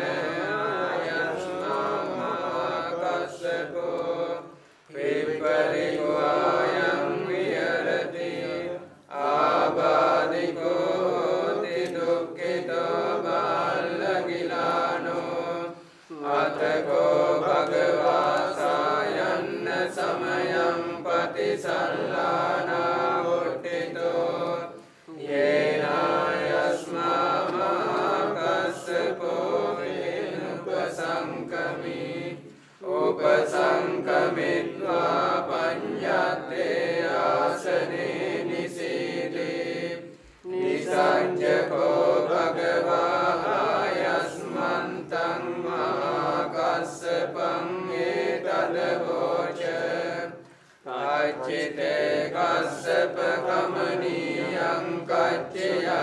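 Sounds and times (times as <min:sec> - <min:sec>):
monks chanting together: 0:00.0 - 0:56.0.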